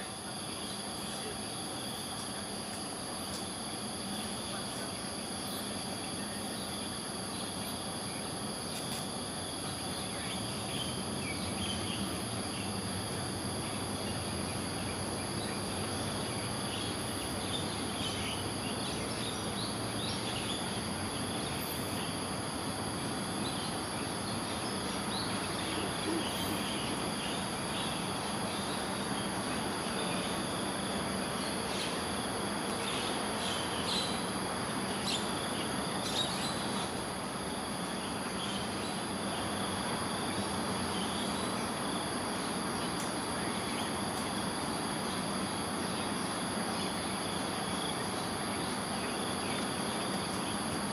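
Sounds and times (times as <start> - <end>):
insects trilling: 0.0 - 50.9.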